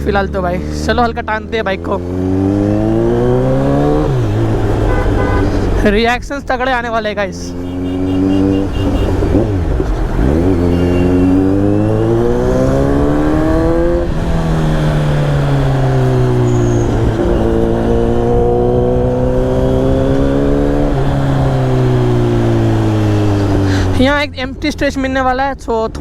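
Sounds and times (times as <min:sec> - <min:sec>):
motorcycle engine accelerating: 0:00.0 - 0:06.2, 0:06.8 - 0:24.4.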